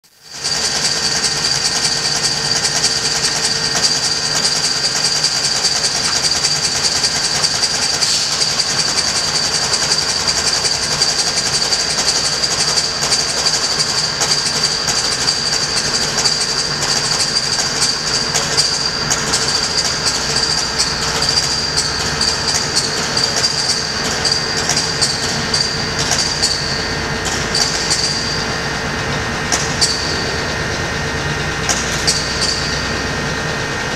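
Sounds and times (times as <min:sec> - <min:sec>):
vibration shaker with high whine: 0:00.1 - 0:33.9.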